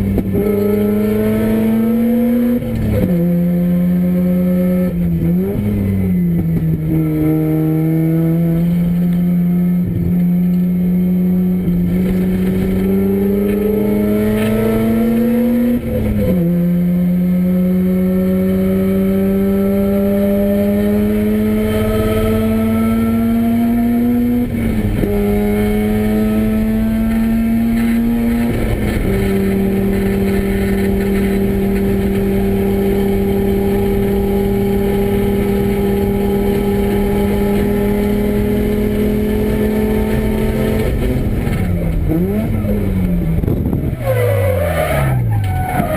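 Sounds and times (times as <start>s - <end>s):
rotary engine revving hard: 0.0s - 5.7s, 11.1s - 45.9s.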